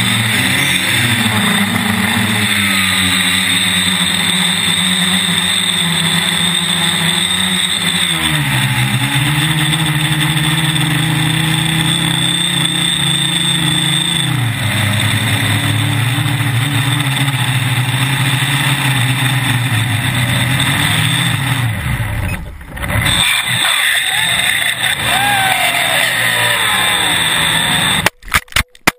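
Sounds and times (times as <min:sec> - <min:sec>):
quadcopter motors humming: 0:00.0 - 0:28.1.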